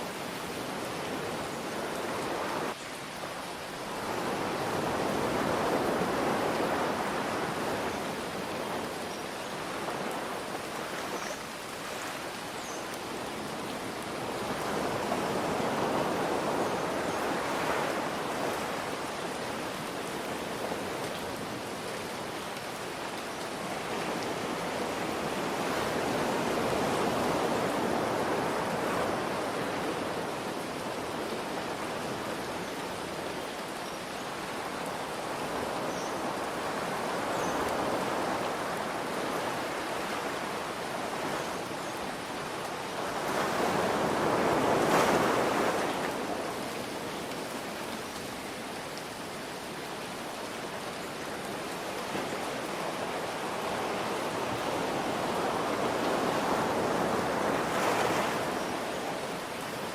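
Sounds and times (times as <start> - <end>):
ocean waves washing: 3.4 - 59.9.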